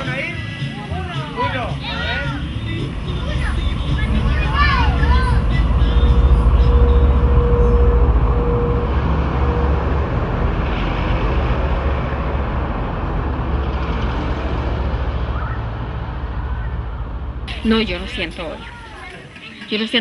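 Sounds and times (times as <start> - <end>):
vehicle engine rumbling: 0.0 - 20.0
faint whine: 2.1 - 19.7.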